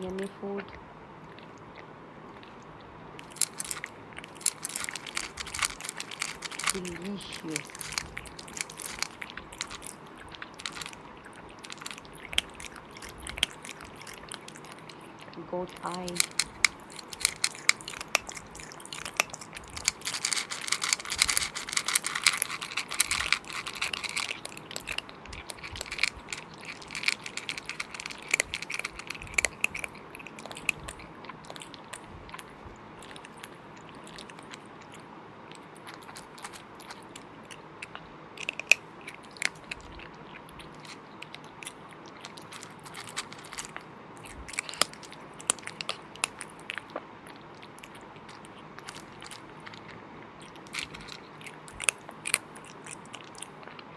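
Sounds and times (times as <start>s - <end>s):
wet chewing and smacking: 0.0s - 53.9s.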